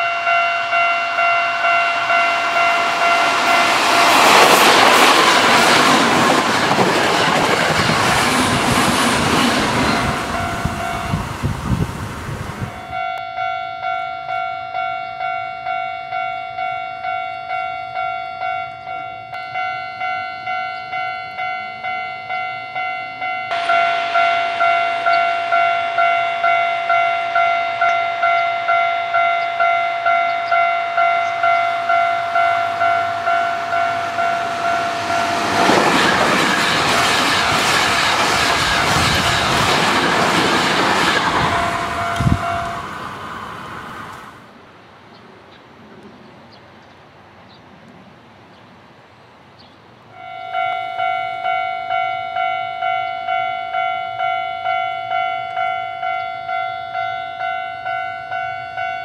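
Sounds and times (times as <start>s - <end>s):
level-crossing alarm bell ringing: 0.0s - 6.8s, 8.2s - 11.4s, 12.6s - 43.2s, 50.2s - 59.0s
electric train passing at speed: 0.0s - 59.0s.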